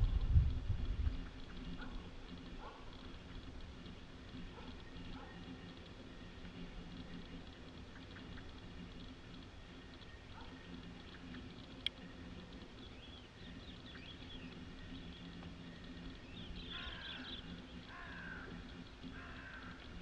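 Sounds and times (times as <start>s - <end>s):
faint steady low hum: 0.0s - 20.0s
birds chirping and calling: 0.8s - 20.0s.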